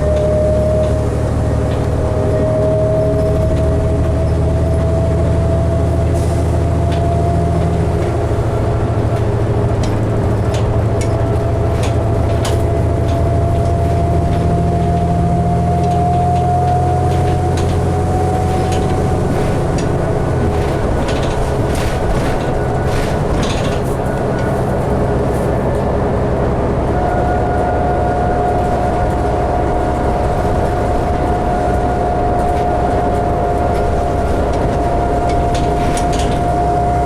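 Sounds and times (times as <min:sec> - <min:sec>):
bus engine drone: 0:00.0 - 0:37.0
engine whine: 0:00.0 - 0:37.0.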